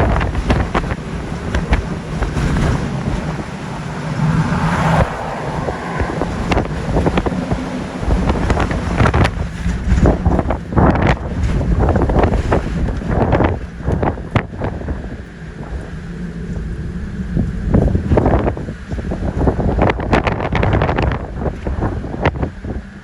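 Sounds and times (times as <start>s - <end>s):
rushing water and waves: 0.0s - 23.0s
wind buffeting microphone: 0.0s - 23.0s.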